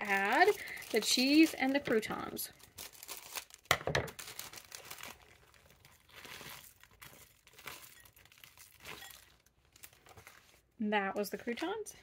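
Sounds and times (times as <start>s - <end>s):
plastic packet crinkling: 0.0s - 10.6s.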